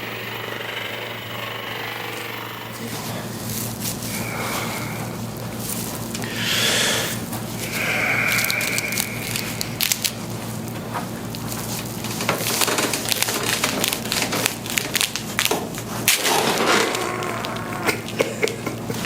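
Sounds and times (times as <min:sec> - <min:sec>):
spinal joints cracking: 0:02.8 - 0:19.0.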